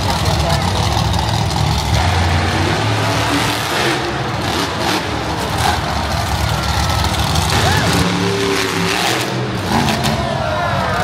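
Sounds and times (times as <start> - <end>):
monster truck engines running: 0.0 - 11.0.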